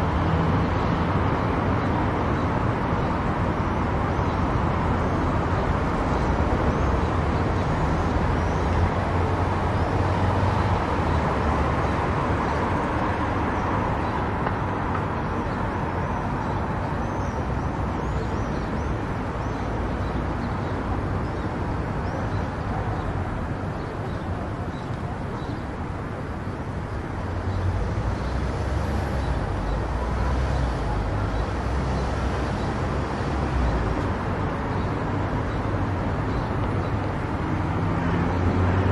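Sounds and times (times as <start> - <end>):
low road rumble: 0.0 - 38.9.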